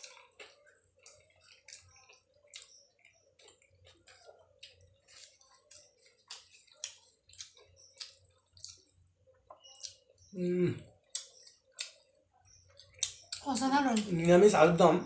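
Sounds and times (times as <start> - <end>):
wet chewing and lip smacks: 0.0 - 14.1.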